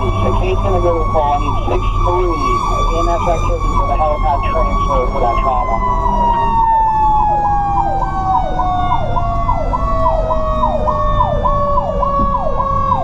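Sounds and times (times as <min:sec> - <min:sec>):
electronic siren sweeping: 0:00.0 - 0:13.0
fire truck engine rumbling: 0:00.0 - 0:13.0
mechanical siren winding down: 0:00.0 - 0:13.0.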